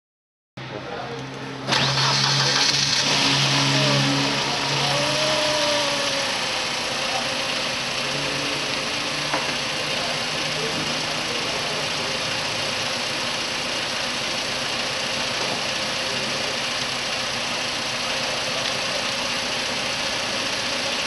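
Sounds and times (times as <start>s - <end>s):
car engine starting and idling: 0.6s - 21.0s.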